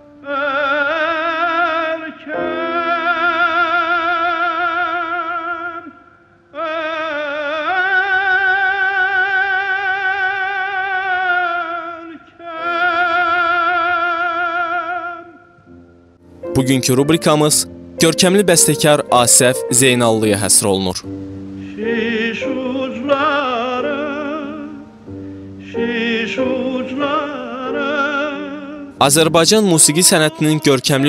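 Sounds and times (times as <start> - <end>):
operatic singing with vibrato: 0.0 - 15.6, 16.4 - 31.0.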